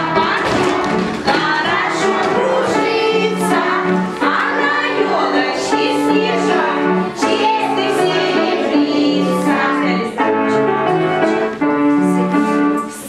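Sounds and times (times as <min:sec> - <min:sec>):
children and women singing: 0:00.0 - 0:12.0
piano accompaniment: 0:00.0 - 0:13.0.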